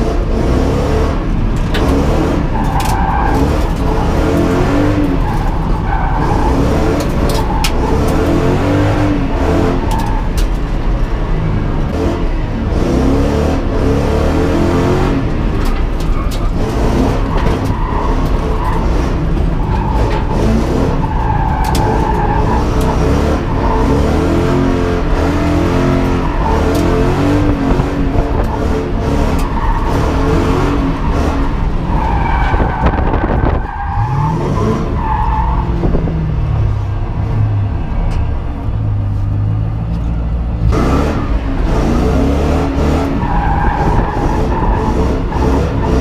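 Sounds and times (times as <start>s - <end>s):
car engine revving hard: 0.0s - 10.1s, 11.9s - 15.4s, 16.5s - 36.1s, 40.7s - 46.0s
tyres skidding and squealing: 0.0s - 46.0s.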